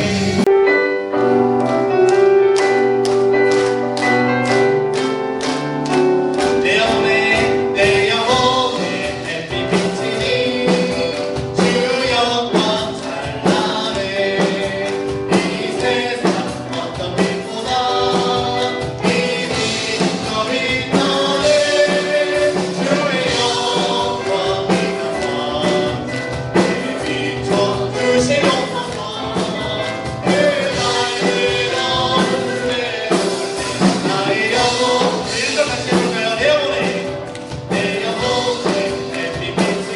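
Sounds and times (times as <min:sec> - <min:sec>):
steady drum beat: 0:00.0 - 0:00.6, 0:02.5 - 0:39.9
band with keyboard: 0:00.0 - 0:39.9
voices singing: 0:04.1 - 0:39.9.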